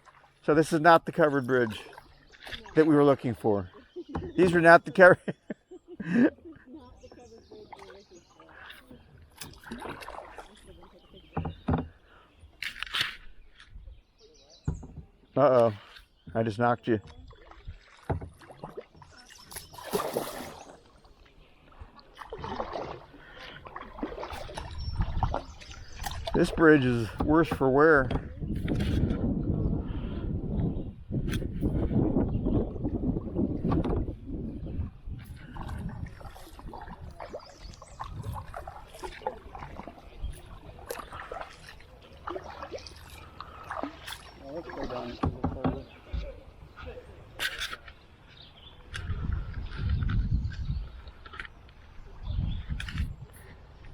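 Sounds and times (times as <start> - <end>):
paddles swishing through water: 0.0 - 53.9.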